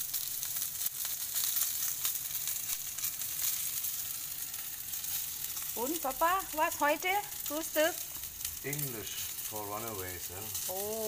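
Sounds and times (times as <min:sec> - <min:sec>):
sausages sizzling in oil: 0:00.0 - 0:11.0.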